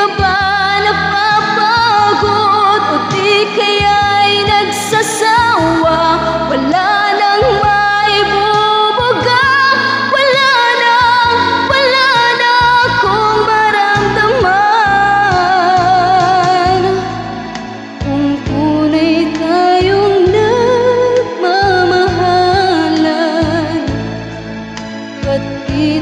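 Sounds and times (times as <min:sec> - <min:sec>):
woman singing slow song: 0:00.0 - 0:24.3, 0:25.2 - 0:26.0
backing track music: 0:00.0 - 0:26.0.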